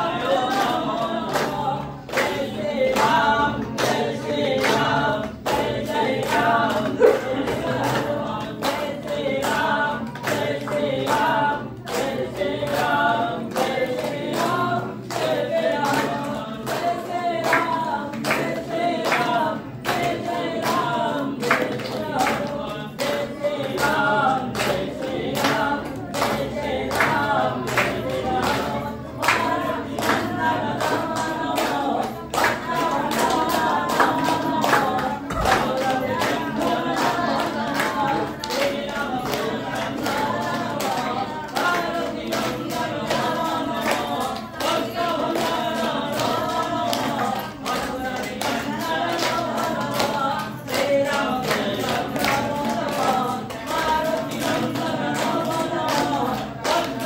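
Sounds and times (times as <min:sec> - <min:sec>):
clapped beat: 0:00.0 - 0:57.0
group singing a hymn: 0:00.0 - 0:57.0.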